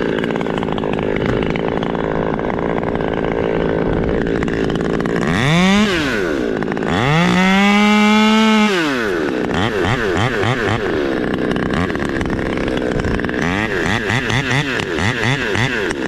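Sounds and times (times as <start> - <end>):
chainsaw idling and revving: 0.0 - 16.0.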